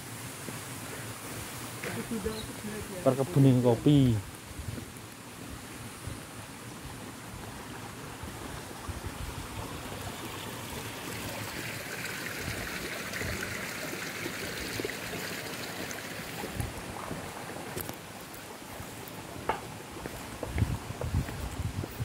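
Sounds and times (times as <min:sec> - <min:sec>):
small stream rushing: 0:00.0 - 0:22.0.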